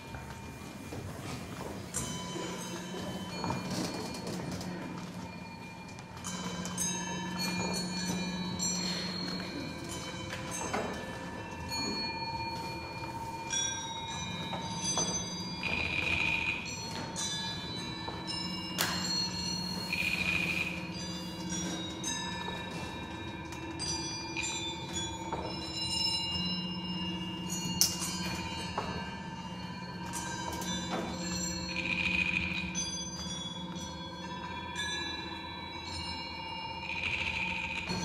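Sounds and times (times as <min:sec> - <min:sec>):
bell-like chimes ringing: 0:00.0 - 0:38.0.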